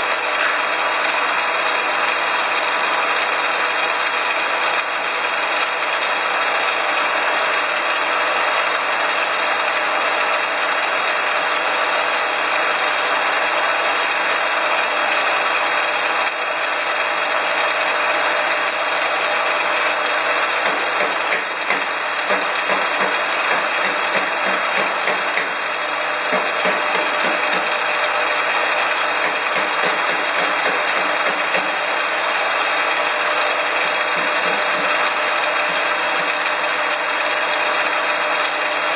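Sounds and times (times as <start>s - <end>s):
machine rattling and clattering: 0.0s - 38.9s.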